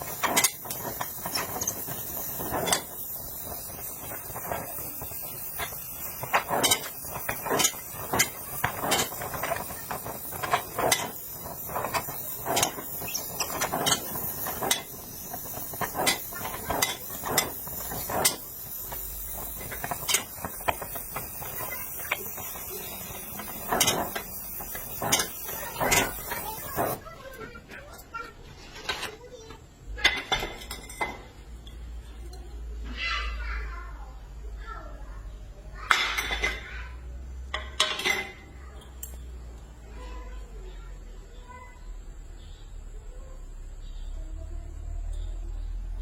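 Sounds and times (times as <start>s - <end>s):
faint steady hiss: 0.0s - 46.0s.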